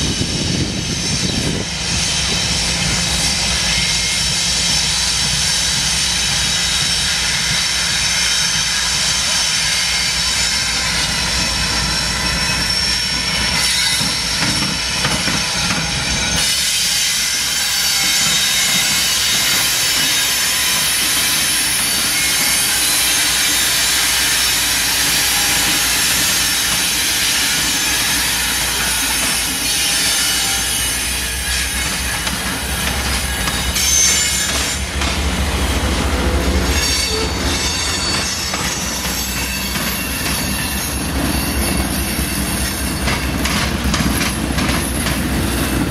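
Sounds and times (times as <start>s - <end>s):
steel wheels squealing: 0.0s - 45.9s
train wheels clattering: 0.1s - 45.9s.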